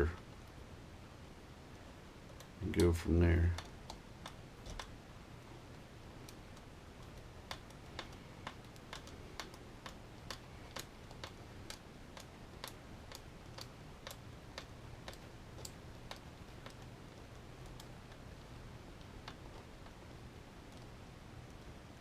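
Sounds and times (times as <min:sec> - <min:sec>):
faint low hum: 0:00.0 - 0:22.0
sharp ticking clicks: 0:02.2 - 0:05.0, 0:05.7 - 0:21.8.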